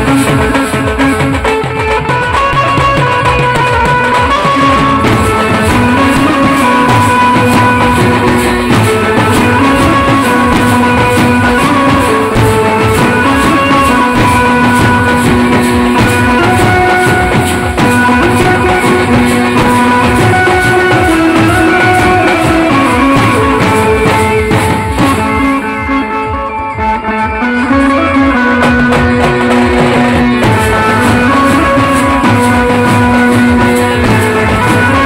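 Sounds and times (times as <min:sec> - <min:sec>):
bass drums: 0:00.0 - 0:35.0
drums beaten with sticks: 0:00.0 - 0:35.0
held melody line: 0:00.0 - 0:35.0.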